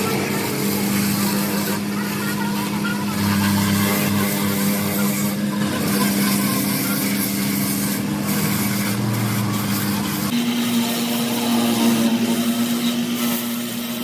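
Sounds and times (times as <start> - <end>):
motor humming and hissing: 0.0 - 14.0.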